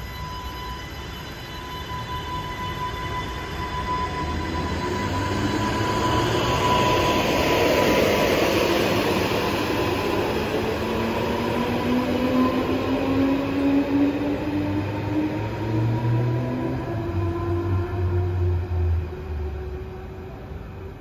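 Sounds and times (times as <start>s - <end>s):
steady high tone: 0.0s - 20.4s
train accelerating: 0.0s - 21.0s.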